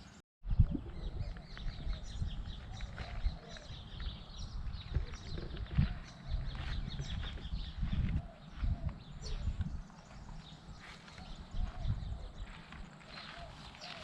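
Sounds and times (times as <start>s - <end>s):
small birds chirping: 0.0s - 14.0s
wind rumble on microphone: 0.4s - 14.0s.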